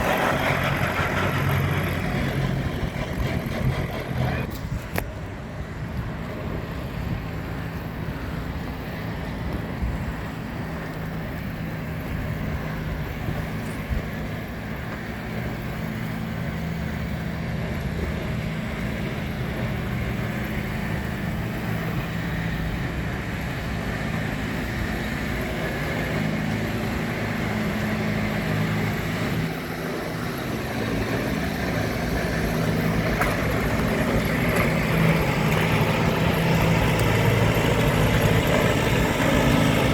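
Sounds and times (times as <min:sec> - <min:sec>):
engine running at low revs: 0:00.0 - 0:39.9
outdoor vehicle noise: 0:00.0 - 0:39.9.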